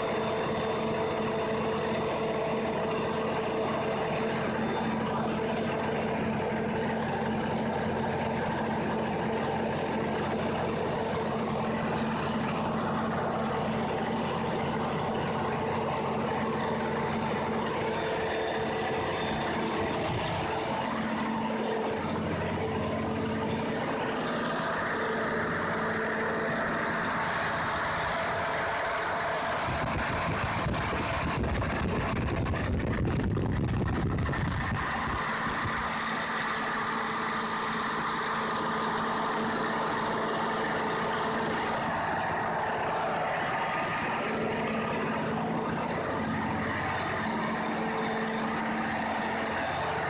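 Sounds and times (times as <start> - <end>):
generator engine humming: 0.0 - 50.0.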